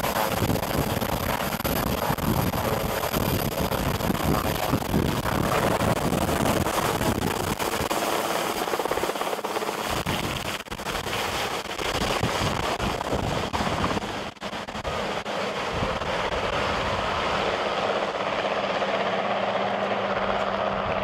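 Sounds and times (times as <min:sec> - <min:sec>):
helicopter rotor chop: 0:00.0 - 0:21.0.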